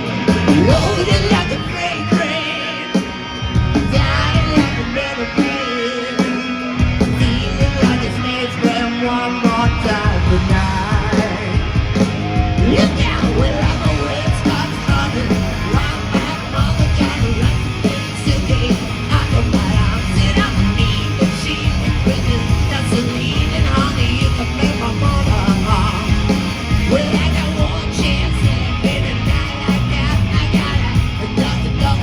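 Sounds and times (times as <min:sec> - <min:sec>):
live hard rock band: 0:00.0 - 0:32.0
shouted lead vocal: 0:00.0 - 0:32.0.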